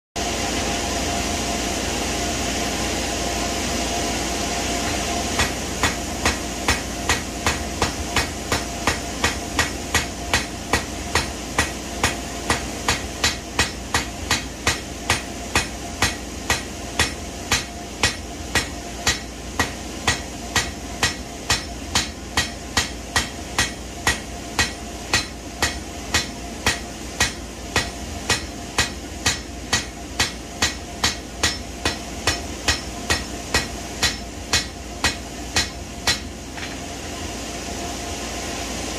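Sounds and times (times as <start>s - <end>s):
hammer striking steel on anvil: 5.4s - 36.8s.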